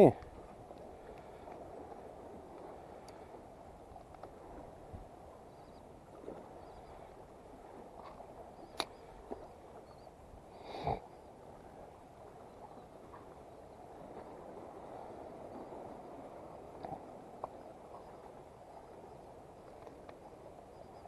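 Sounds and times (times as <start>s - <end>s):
wind: 0.0s - 21.0s.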